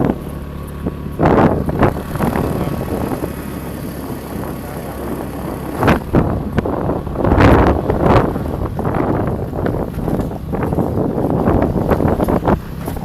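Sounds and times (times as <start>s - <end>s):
vehicle engine and road rumble: 0.0s - 13.0s
vehicle jolts: 0.0s - 13.0s.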